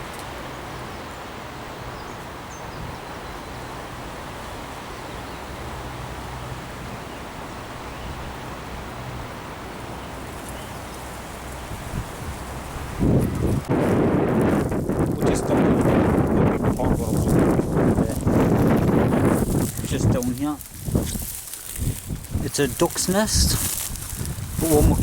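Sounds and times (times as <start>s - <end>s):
wind and rustling: 0.0s - 25.0s.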